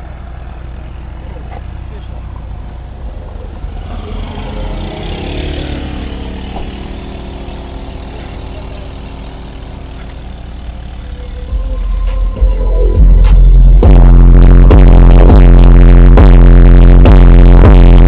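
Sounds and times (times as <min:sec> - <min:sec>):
recorded engine over car stereo: 0:00.0 - 0:18.0.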